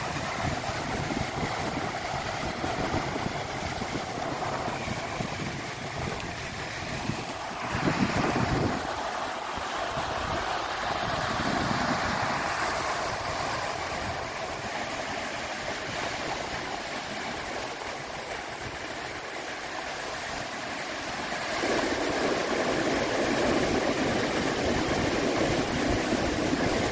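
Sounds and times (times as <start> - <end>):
sea waves washing ashore: 0.0 - 26.9
wind: 0.0 - 26.9.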